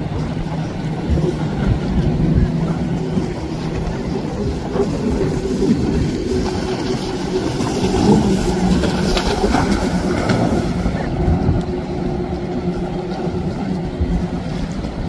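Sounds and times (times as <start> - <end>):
jet ski engine droning: 0.0 - 15.0
water rushing and spray: 0.0 - 15.0.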